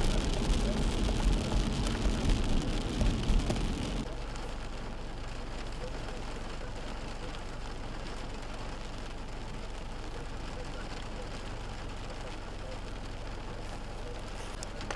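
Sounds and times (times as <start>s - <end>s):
heavy rain falling: 0.0s - 14.9s
rain drops impacting: 0.0s - 14.9s.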